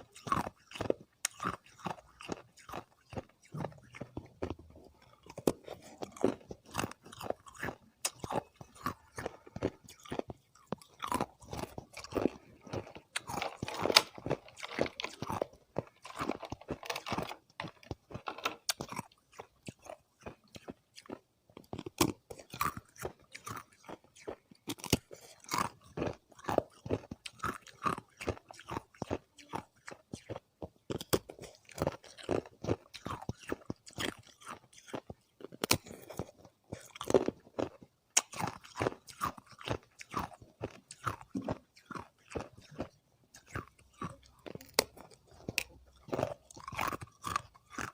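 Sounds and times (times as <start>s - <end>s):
chewing ice crunching: 0.0s - 47.9s.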